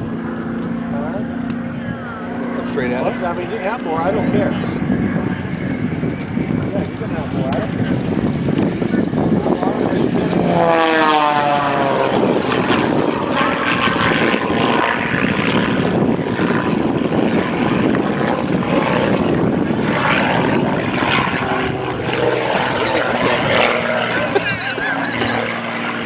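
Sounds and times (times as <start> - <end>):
propeller plane flying past: 0.0 - 26.0.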